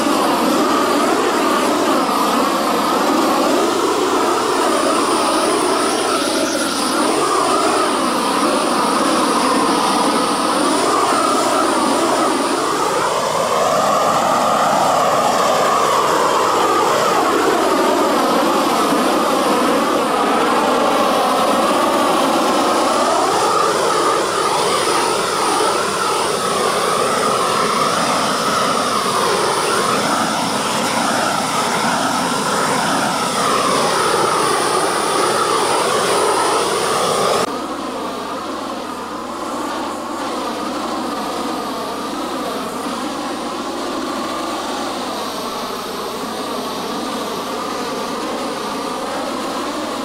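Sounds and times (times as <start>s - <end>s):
propane torch roaring: 0.0s - 50.0s.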